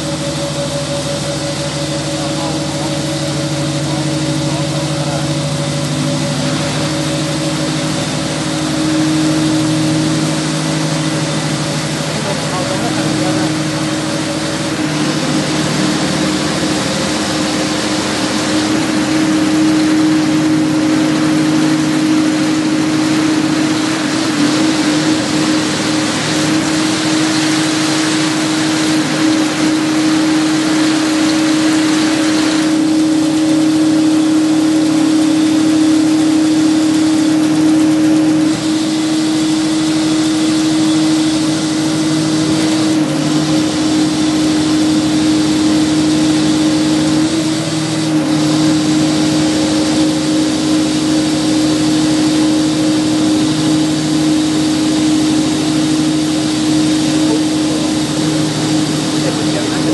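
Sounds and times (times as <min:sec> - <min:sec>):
engine humming steadily: 0:00.0 - 0:59.9.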